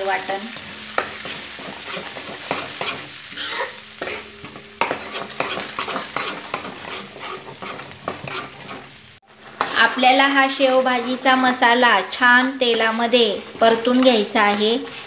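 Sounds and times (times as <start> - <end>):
paste sizzling in hot oil: 0.0 - 15.0
ladle scraping and knocking pan: 0.5 - 15.0.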